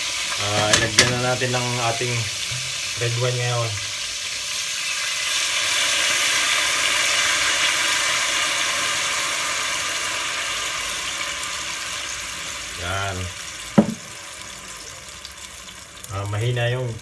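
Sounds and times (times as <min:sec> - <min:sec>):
wine sizzling in hot pot: 0:00.0 - 0:17.0.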